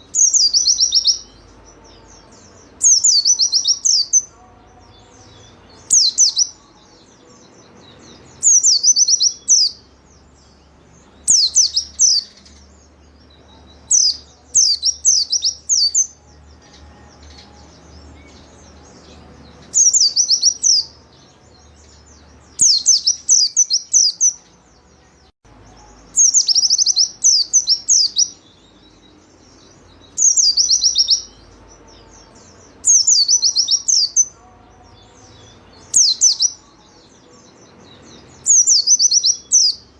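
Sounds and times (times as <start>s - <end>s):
bird singing rapid high phrases: 0.0s - 39.9s.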